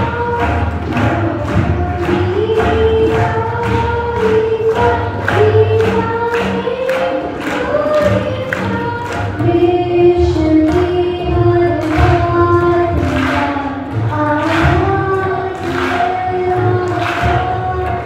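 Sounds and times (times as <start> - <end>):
people singing long notes: 0.0 - 18.0
tabla rhythm: 0.0 - 18.0.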